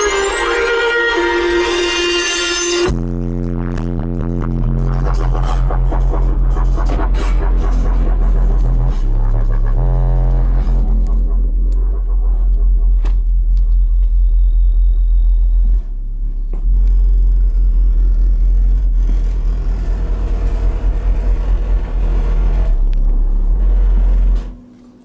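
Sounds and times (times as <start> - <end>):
deep pulsing subwoofer bass: 2.9 - 24.5.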